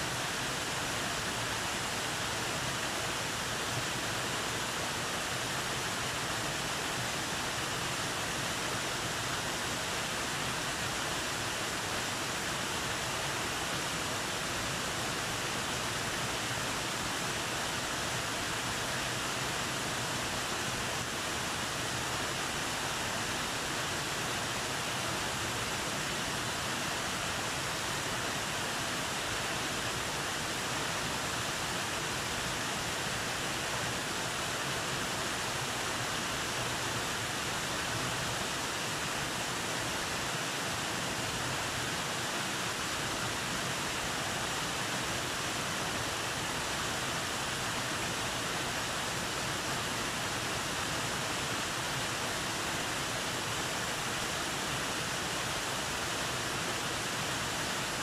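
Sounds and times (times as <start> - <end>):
waterfall pouring over rocks: 0.0 - 58.0.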